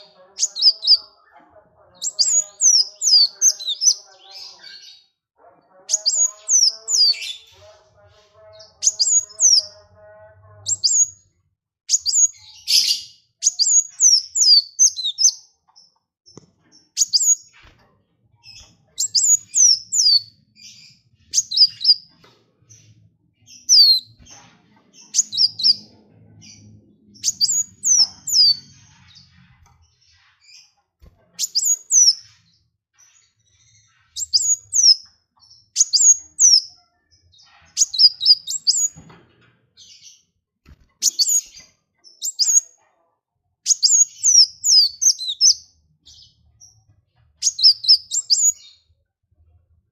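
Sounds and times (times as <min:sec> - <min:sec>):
songbird chirping: 0:00.0 - 0:42.8, 0:43.6 - 0:49.9.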